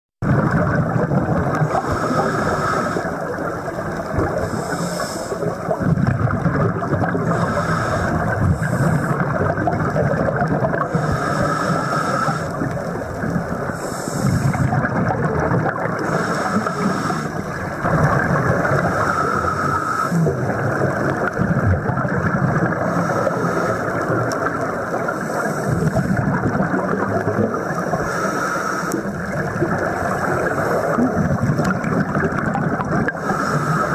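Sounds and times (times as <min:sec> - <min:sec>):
underwater rush of bubbles: 0:00.2 - 0:33.9
diver's regulator breath: 0:01.5 - 0:05.9, 0:07.1 - 0:09.5, 0:10.7 - 0:14.9, 0:15.6 - 0:21.4, 0:22.7 - 0:33.9.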